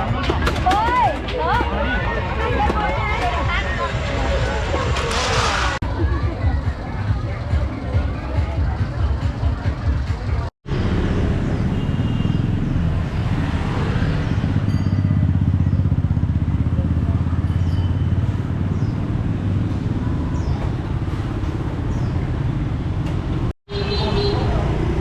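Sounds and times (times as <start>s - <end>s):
motorbike engines rumbling: 0.0s - 25.0s.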